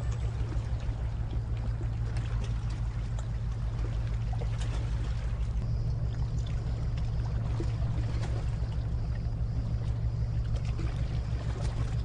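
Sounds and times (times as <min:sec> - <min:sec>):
marine engine droning: 0:00.0 - 0:12.0.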